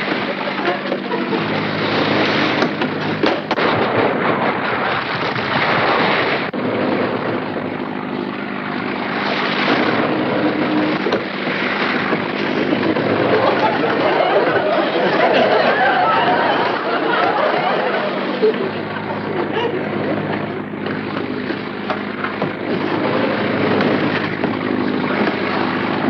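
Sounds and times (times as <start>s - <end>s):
boat engine droning: 0.0s - 26.0s
wind and rough water rushing: 0.0s - 26.0s.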